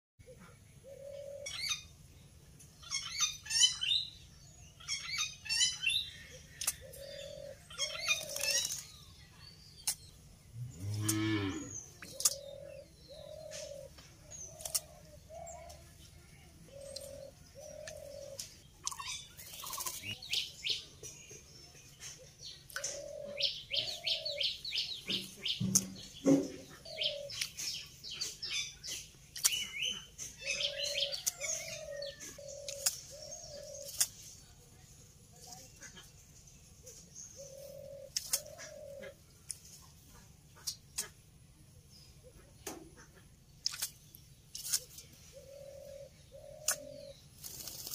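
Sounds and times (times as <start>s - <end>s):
bird chirping and twittering: 0.2s - 41.2s, 41.8s - 47.9s.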